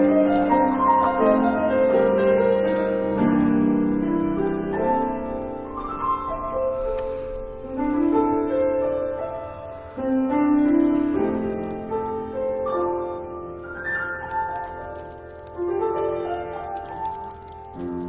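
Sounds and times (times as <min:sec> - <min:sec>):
slow classical keyboard piece: 0:00.0 - 0:18.0.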